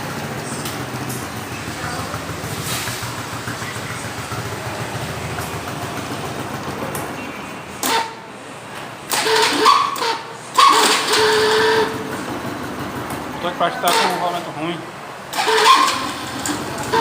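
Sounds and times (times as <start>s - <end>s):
starter motor rough mechanical noise: 0.0s - 17.0s.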